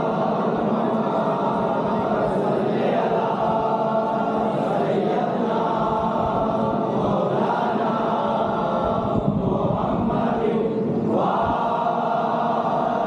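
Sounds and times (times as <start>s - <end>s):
group of voices chanting: 0.0s - 13.0s.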